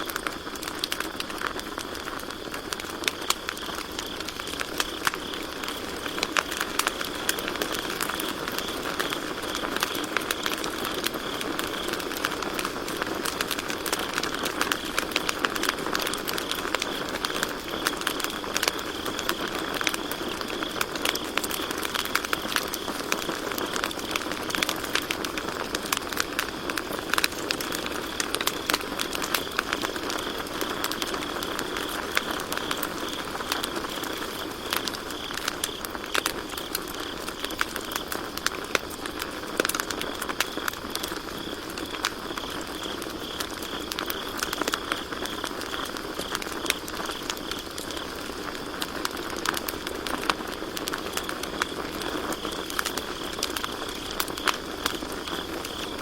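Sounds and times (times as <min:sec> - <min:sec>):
campfire crackling and popping: 0:00.0 - 0:56.0
crickets trilling: 0:00.0 - 0:56.0.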